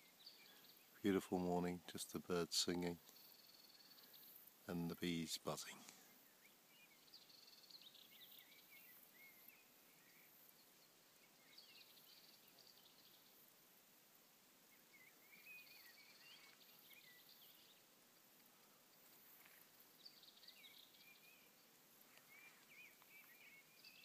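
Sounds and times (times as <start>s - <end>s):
faint birdsong chirps: 0.0s - 24.0s.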